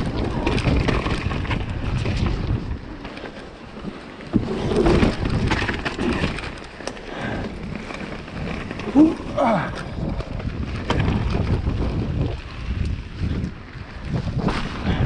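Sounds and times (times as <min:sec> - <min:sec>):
bike rattling and knocking: 0:00.0 - 0:15.0
bike tyres rumbling on dirt: 0:00.0 - 0:15.0
wind buffeting microphone: 0:00.0 - 0:15.0.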